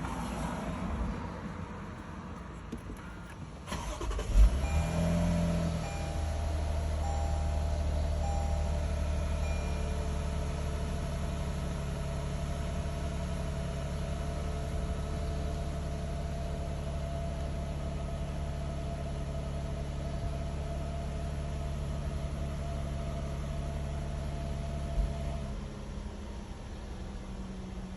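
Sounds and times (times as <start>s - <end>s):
car engine idling: 1.1s - 27.9s.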